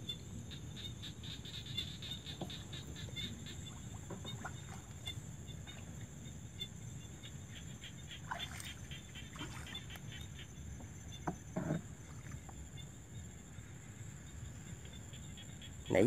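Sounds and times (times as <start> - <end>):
frogs calling in clicking pulses: 0.0 - 16.0
high insect trill: 0.0 - 16.0.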